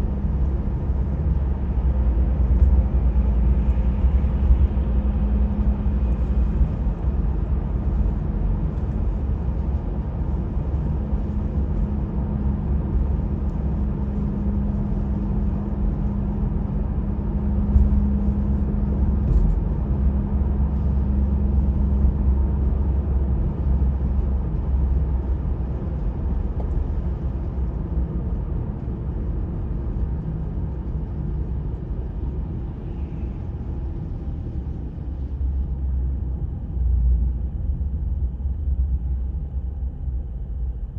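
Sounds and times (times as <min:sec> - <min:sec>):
vehicle rumbling on road: 0:00.0 - 0:40.9.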